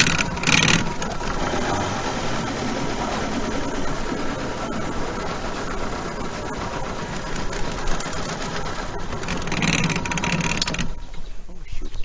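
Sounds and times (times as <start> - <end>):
outboard motor running: 0.0 - 11.6.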